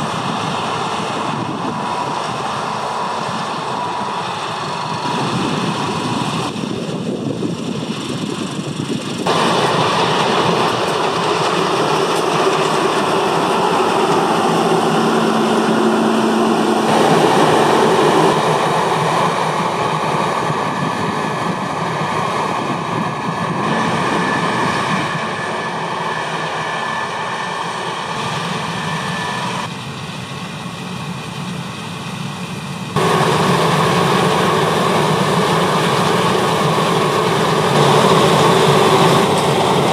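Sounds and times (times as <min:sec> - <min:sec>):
combine harvester engine and threshing: 0:00.0 - 0:39.9.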